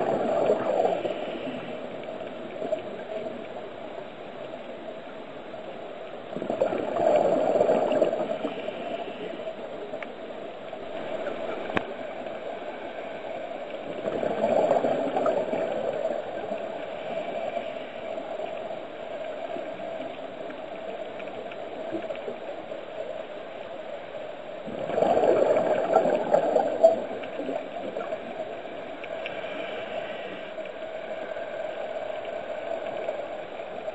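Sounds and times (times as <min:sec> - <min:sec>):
steady hum: 0:00.0 - 0:33.9
underwater bubbles gurgling: 0:00.0 - 0:33.9.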